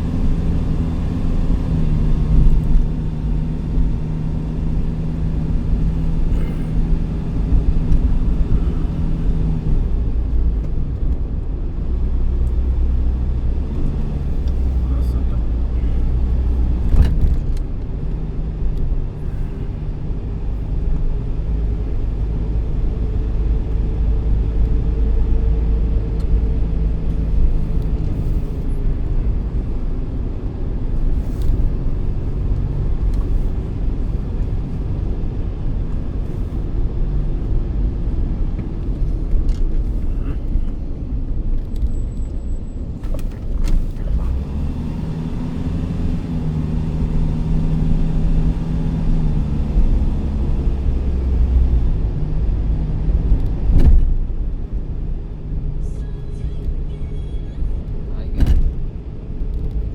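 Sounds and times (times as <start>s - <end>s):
faint engine hum: 0.0s - 59.9s
road vehicle rumble: 0.0s - 59.9s.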